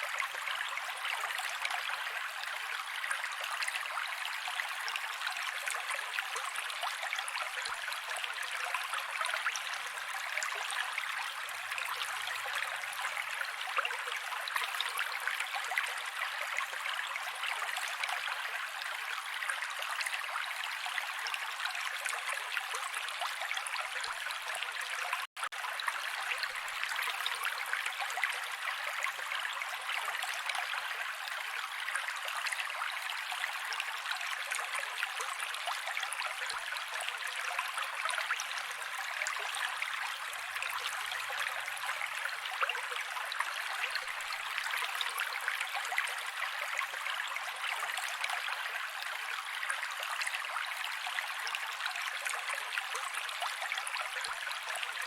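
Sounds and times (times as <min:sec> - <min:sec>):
creek water babbling over rocks: 0:00.0 - 0:55.0.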